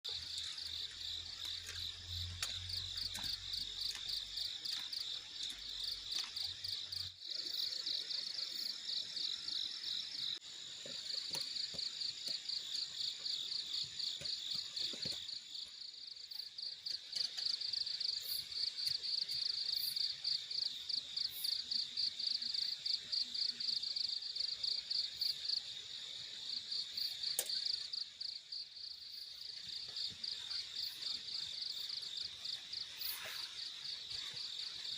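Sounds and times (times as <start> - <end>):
crickets chirring: 0.1 - 34.9
high-pitched insect tone: 0.1 - 34.9.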